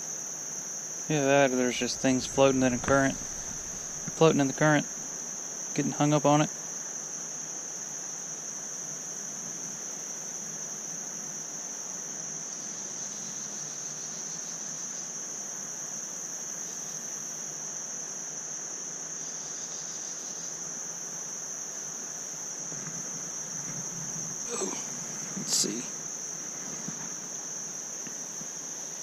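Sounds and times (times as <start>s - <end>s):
insects trilling: 0.0s - 18.2s, 19.1s - 29.0s.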